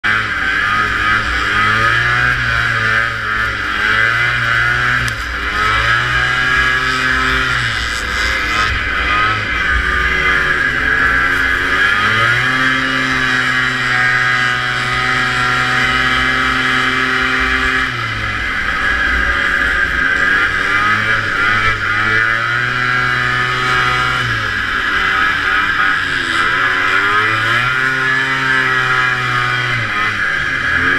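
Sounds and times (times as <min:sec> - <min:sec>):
snowmobile engine revving: 0:00.0 - 0:30.9
snowmobile track noise: 0:00.0 - 0:30.9.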